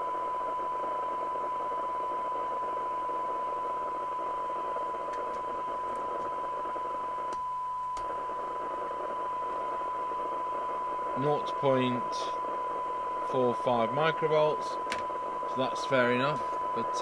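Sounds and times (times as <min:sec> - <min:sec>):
radio hiss: 0:00.0 - 0:17.0
radio test tone: 0:00.0 - 0:17.0.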